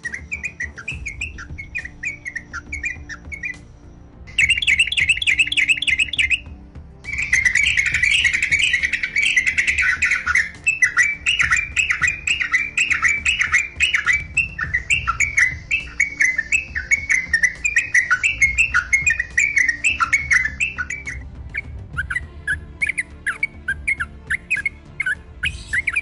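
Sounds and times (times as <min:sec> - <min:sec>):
bird chattering song: 0:00.0 - 0:26.0.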